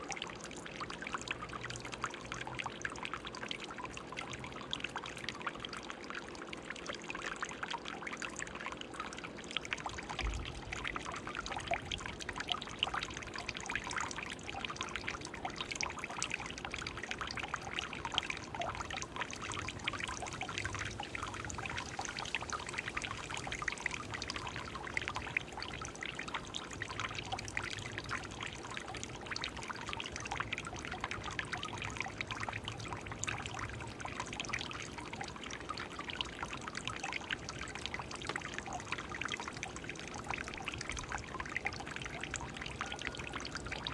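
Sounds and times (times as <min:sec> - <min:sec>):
fountain water trickling and splashing: 0:00.0 - 0:43.9.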